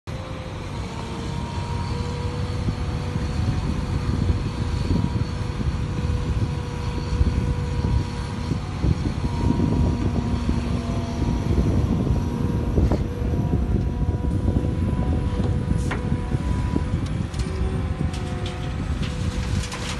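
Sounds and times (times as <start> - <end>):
excavator diesel engine whining: 0.1 - 19.9.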